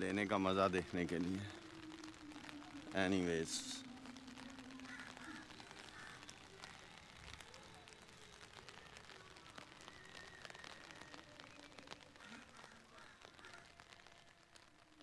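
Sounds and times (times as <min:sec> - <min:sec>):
raindrop ticks: 0:00.0 - 0:15.0
soft rain hiss: 0:00.0 - 0:15.0.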